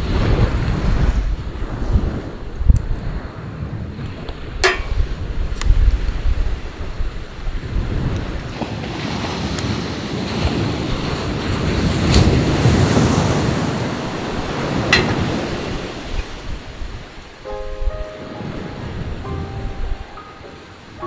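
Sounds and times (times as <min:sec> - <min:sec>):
sea waves surging onto shore: 0:00.0 - 0:21.0
wind buffeting microphone: 0:00.0 - 0:21.0.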